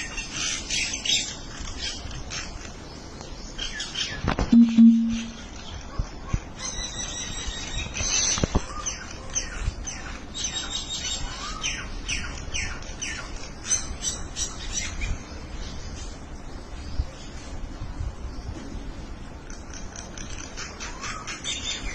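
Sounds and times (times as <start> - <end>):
birds chirping and squawking: 0.0 - 4.4, 5.1 - 17.4, 19.4 - 21.9.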